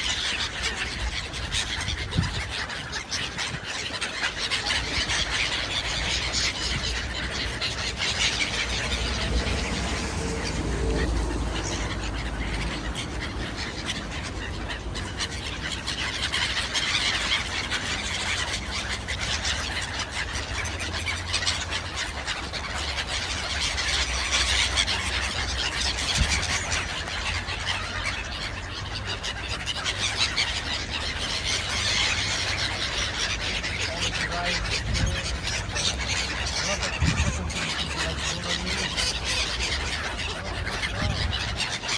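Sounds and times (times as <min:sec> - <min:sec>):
flock of birds chirping: 0:00.0 - 0:41.9.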